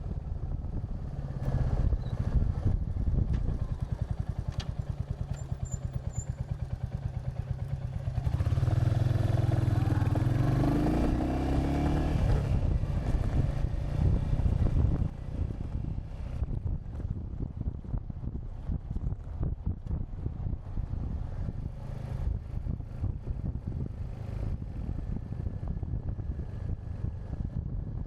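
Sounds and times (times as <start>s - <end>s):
motorbike engine pulsing and accelerating: 0.0s - 28.0s.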